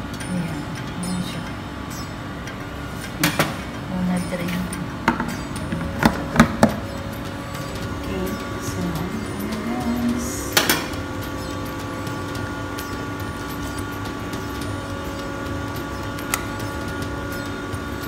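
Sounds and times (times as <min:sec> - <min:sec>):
held tones: 0:00.0 - 0:18.0
kitchen hum: 0:00.0 - 0:18.0.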